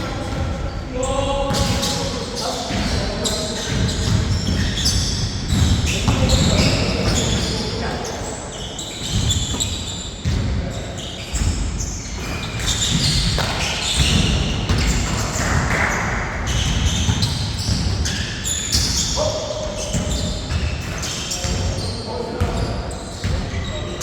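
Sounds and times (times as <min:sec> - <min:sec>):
basketball bouncing on court: 0:00.0 - 0:02.1, 0:02.7 - 0:07.8, 0:09.0 - 0:23.9.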